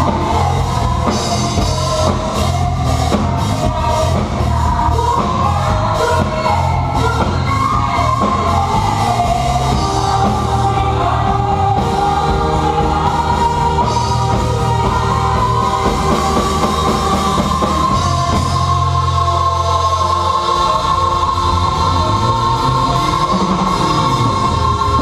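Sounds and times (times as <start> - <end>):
band music with singing: 0.0 - 25.0.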